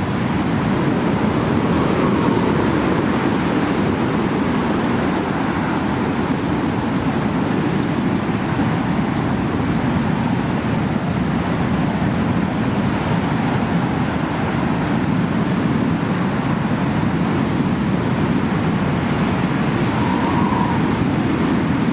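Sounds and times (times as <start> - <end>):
strong wind: 0.0 - 21.9.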